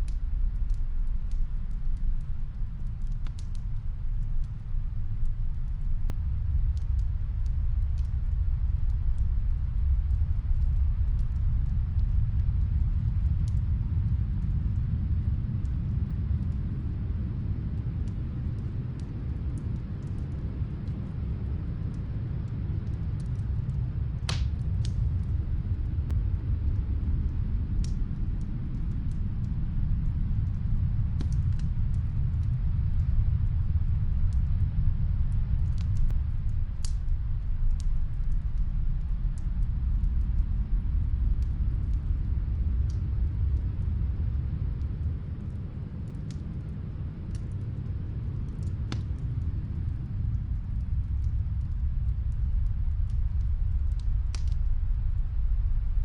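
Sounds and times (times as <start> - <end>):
fireplace crackling and popping: 0.0 - 56.0
snowstorm wind rumble: 0.0 - 56.0.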